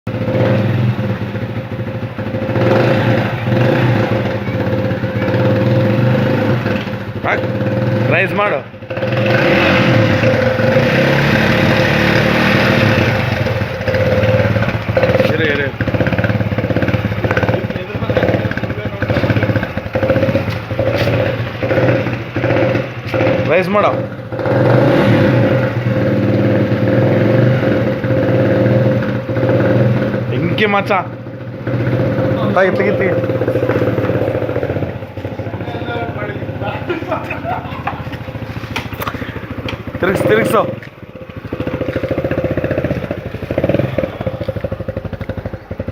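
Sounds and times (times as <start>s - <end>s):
motorcycle engine idling: 0.1s - 45.9s.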